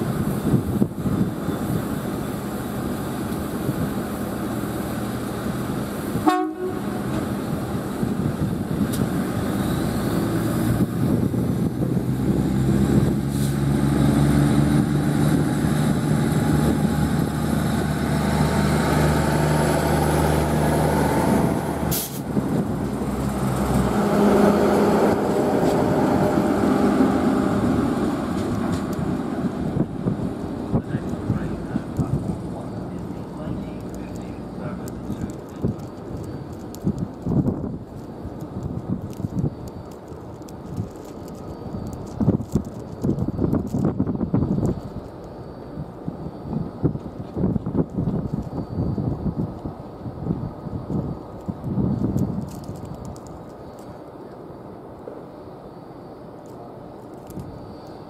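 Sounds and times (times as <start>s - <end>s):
train diesel engine drone: 0.0s - 58.0s.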